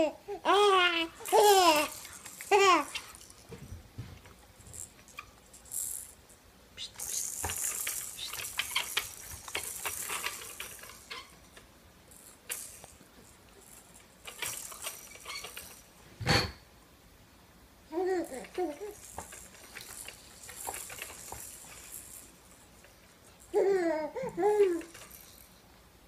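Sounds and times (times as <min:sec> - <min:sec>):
plastic rattle toy shaken: 0:00.9 - 0:16.0, 0:18.2 - 0:23.8, 0:24.4 - 0:25.6.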